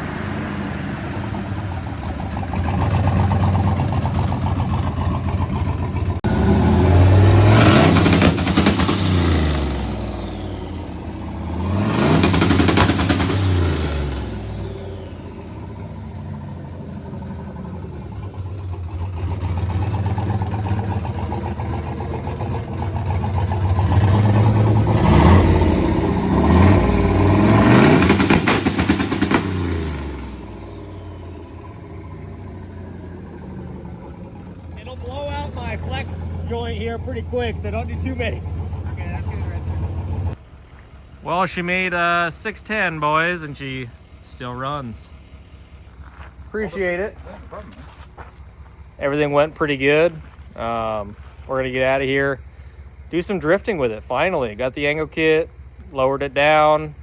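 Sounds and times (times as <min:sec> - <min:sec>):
turbocharged engine revving: 0:00.0 - 0:57.0.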